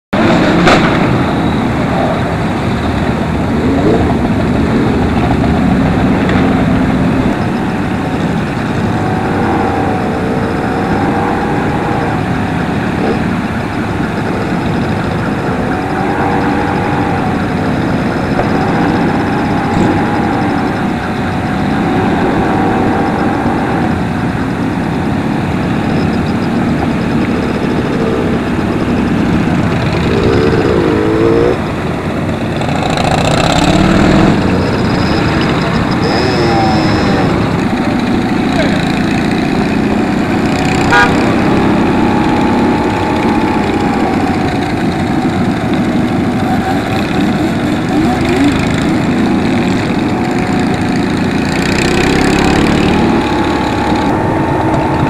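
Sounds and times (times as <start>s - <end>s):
motorcycle engines at low speed: 0.1s - 55.0s.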